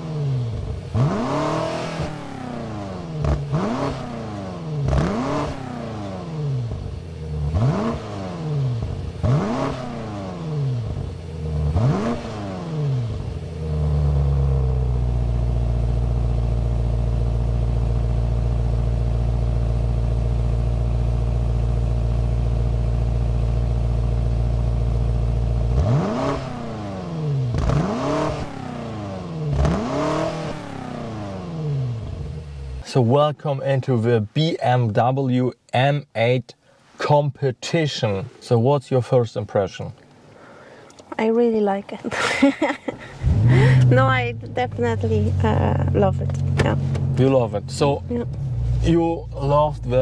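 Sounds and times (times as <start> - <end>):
car engine revving: 0.0 - 35.4, 41.8 - 50.0.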